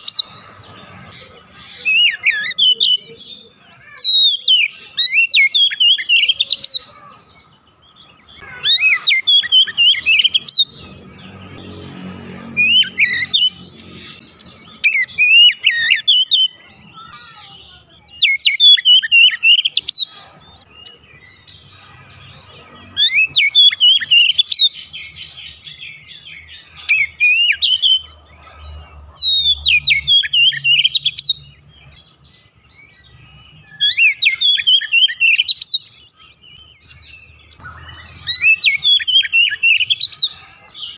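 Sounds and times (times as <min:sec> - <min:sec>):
magpie-robin whistled song: 0:00.0 - 0:11.6, 0:12.6 - 0:28.2, 0:29.2 - 0:40.9.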